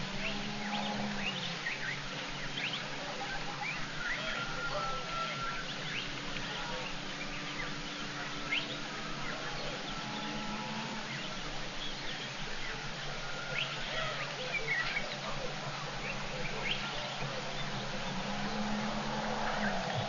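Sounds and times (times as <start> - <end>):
faint low hum: 0.0 - 20.0
insect chorus chirping: 0.0 - 20.0.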